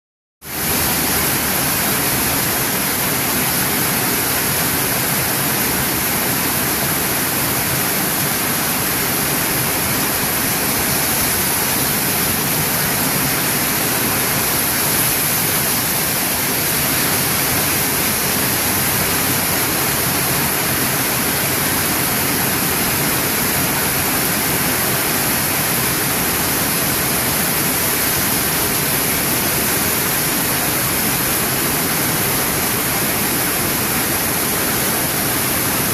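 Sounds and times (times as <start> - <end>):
heavy rain on a tin roof: 0.4 - 35.9.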